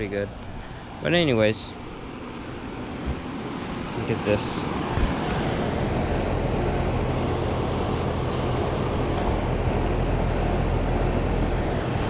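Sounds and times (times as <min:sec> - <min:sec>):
compressor hum: 0:00.0 - 0:12.0
condenser fan rushing air: 0:00.0 - 0:12.0.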